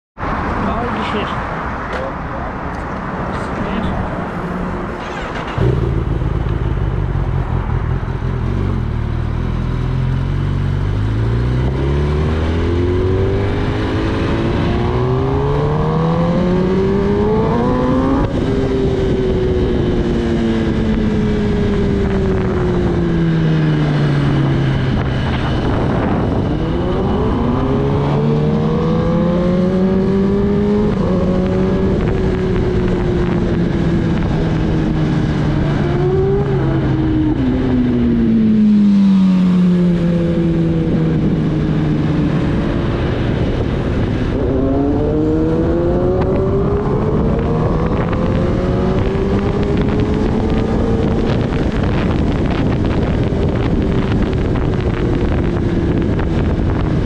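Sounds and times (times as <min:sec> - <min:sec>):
motorcycle engine accelerating: 0:03.8 - 0:57.0.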